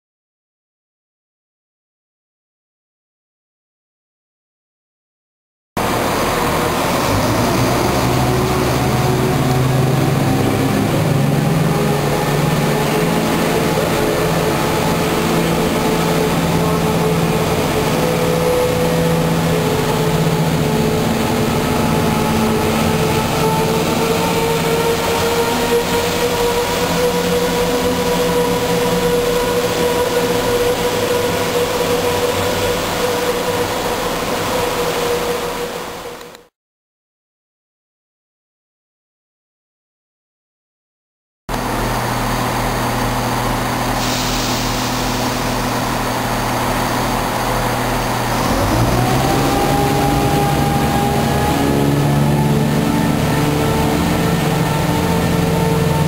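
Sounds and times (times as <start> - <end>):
low diesel engine rumble: 5.8 - 36.4, 41.5 - 56.0
train transmission howl: 5.8 - 36.4, 41.5 - 56.0.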